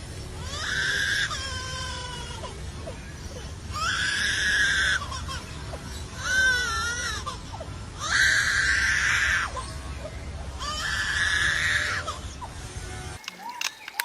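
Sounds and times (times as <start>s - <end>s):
baby birds screeching: 0.4s - 12.5s.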